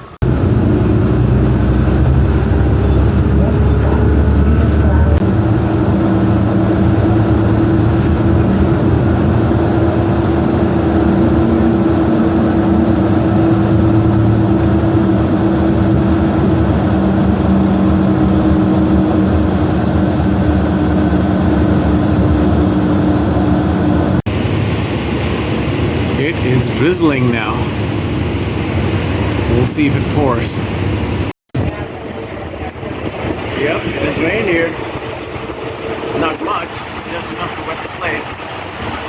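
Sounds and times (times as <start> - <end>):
road noise: 0.0 - 39.0
vehicle engine hum: 0.0 - 39.0.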